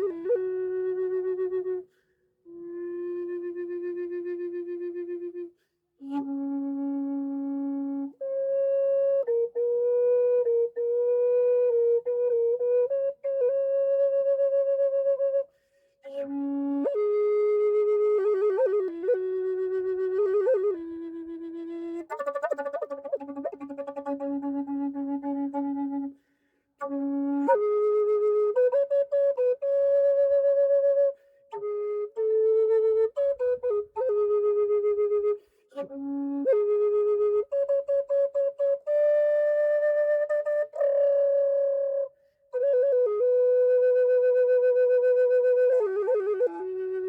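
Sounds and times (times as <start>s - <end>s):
wooden flute melody: 0.0s - 47.0s.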